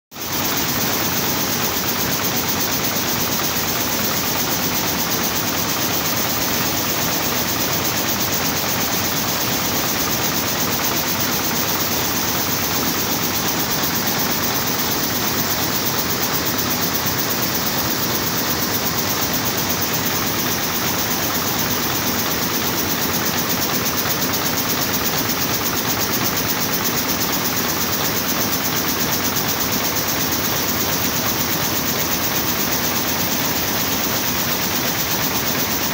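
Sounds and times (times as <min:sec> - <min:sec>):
continuous high hiss: 0:00.2 - 0:35.9
loom mechanical clatter: 0:00.3 - 0:35.9.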